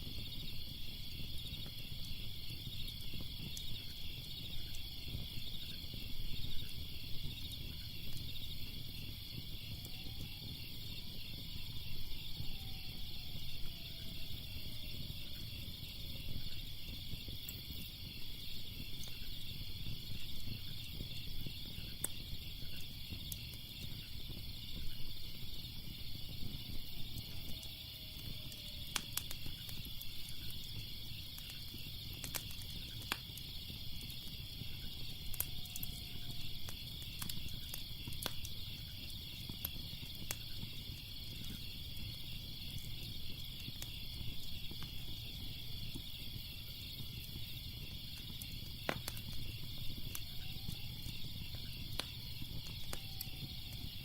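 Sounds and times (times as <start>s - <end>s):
crickets chirping: 0.0s - 54.0s
fire crackling and popping: 0.0s - 54.0s.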